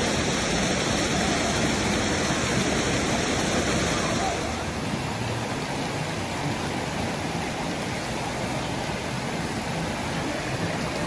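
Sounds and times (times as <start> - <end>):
creek flowing over rocks: 0.0 - 11.0.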